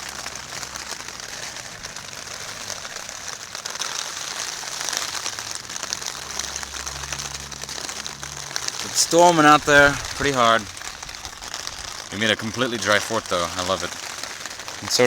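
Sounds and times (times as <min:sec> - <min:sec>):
heavy rain on a roof: 0:00.0 - 0:15.0.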